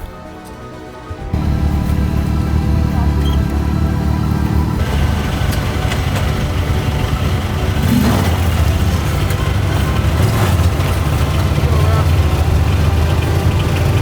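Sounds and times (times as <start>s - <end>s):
utility vehicle engine humming: 1.3s - 14.0s.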